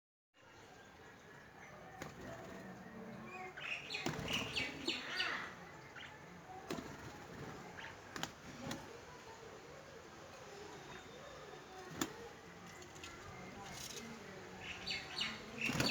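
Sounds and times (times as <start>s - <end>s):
small birds chirping: 0.4s - 15.9s.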